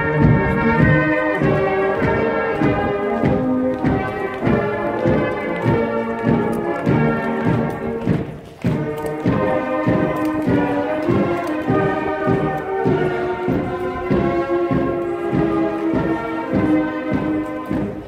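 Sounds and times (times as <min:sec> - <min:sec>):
brass band playing a march: 0:00.0 - 0:18.0.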